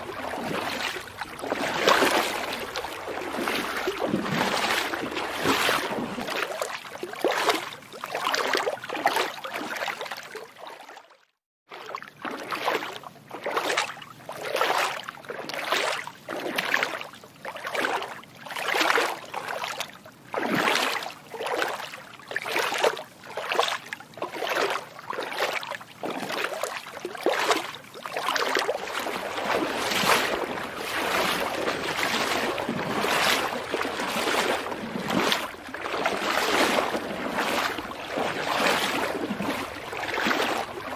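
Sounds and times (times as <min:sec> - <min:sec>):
feet wading through shallow water: 0:00.0 - 0:40.9.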